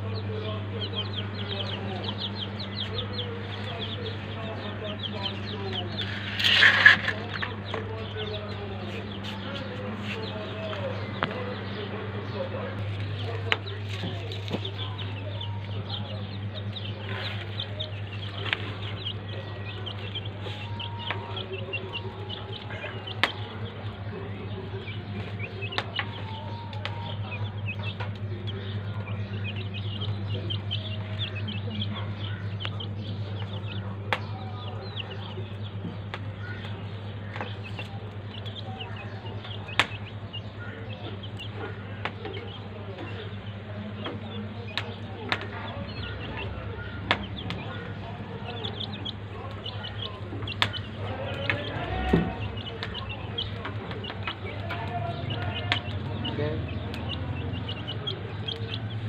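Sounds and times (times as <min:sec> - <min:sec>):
chicks peeping: 0:00.0 - 0:59.0
steady low hum: 0:00.0 - 0:59.0.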